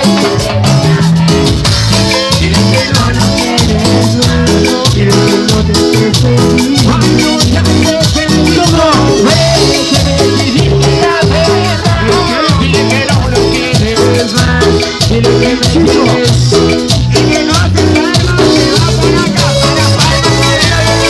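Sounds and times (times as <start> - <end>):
latin band playing instrumental: 0.0 - 21.0.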